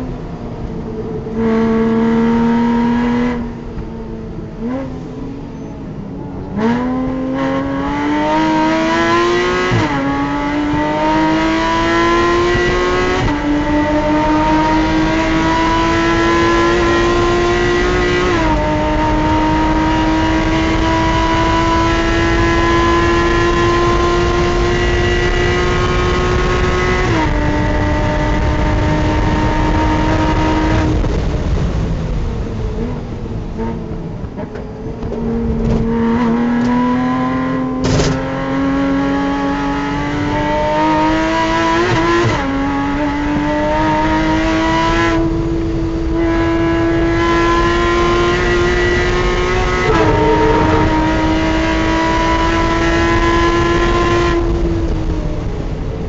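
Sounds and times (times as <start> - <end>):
race car engine revving: 1.3 - 3.8, 6.4 - 31.1, 35.1 - 55.0.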